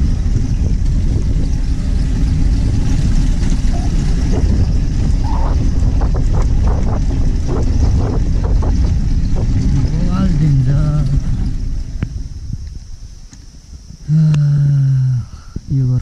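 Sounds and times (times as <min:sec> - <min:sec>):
motorcycle engine rumble: 0:00.0 - 0:16.0
wind noise: 0:00.0 - 0:16.0.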